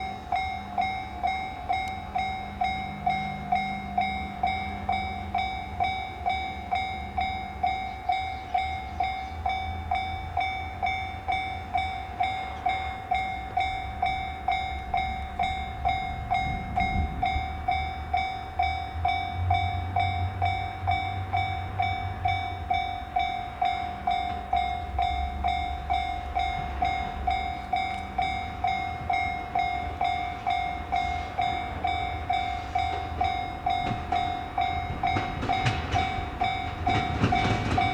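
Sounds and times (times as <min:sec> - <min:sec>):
level crossing warning bell: 0:00.0 - 0:37.9
passing train rumble: 0:00.0 - 0:37.9.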